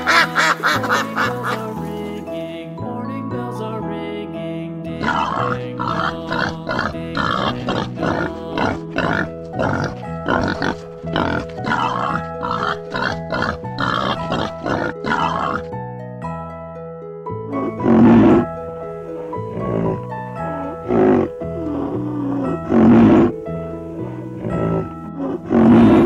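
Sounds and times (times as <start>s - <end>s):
pigs grunting: 0.0s - 1.9s, 5.0s - 15.7s, 17.5s - 26.0s
background music with held notes: 0.0s - 26.0s.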